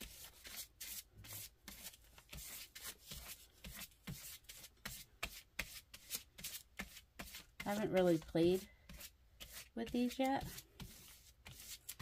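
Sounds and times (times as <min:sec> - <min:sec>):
paintbrush swishing on paper: 0:00.0 - 0:12.0.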